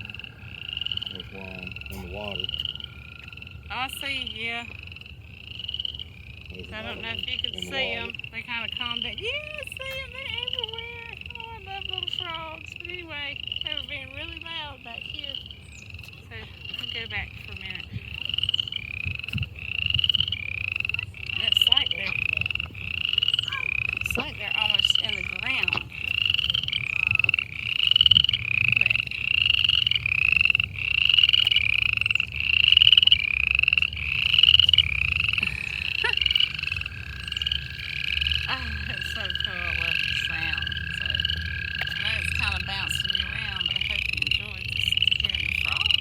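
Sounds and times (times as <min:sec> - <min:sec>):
long low trill: 0:00.0 - 0:13.1, 0:20.6 - 0:46.0
frogs calling: 0:00.0 - 0:46.0.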